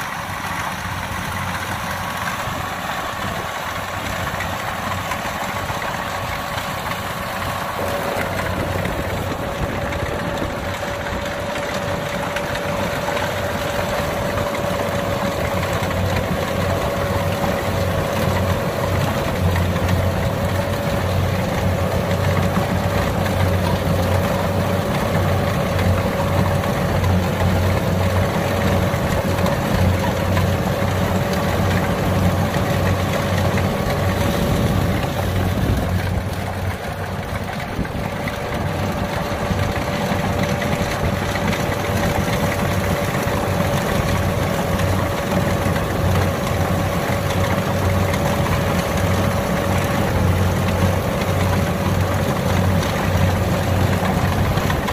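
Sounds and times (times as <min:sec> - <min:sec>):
combine harvester diesel engine: 0:00.0 - 0:54.9.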